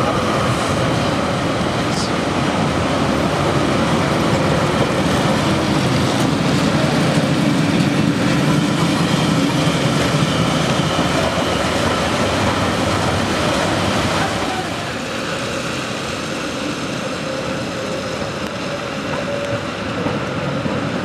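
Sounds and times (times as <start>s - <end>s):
tram wheels rumbling on rails: 0.0s - 21.0s.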